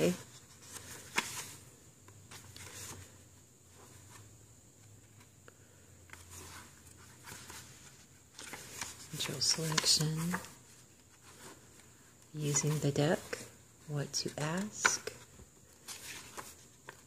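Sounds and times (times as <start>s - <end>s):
paper pages rustling: 0.0s - 4.3s, 6.1s - 17.0s.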